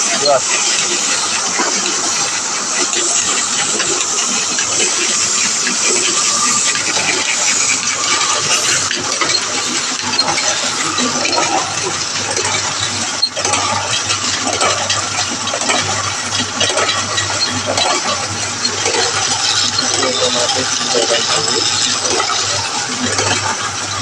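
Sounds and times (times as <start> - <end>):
printing press running: 0.0 - 24.0.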